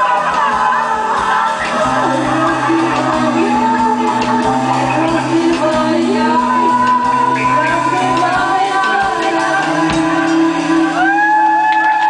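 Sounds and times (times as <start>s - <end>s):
live band playing: 0.0s - 12.0s
woman singing into microphone: 0.0s - 12.0s
drum beat: 0.4s - 11.1s.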